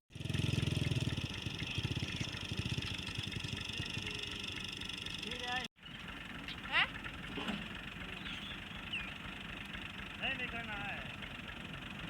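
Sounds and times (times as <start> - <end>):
vehicle engine idling: 0.1 - 12.0.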